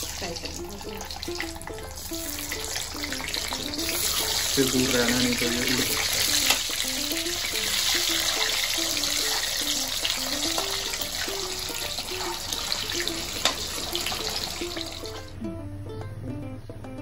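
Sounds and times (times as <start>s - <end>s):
kitchen hiss: 0.0s - 15.4s
plucked guitar-like music: 0.0s - 17.0s.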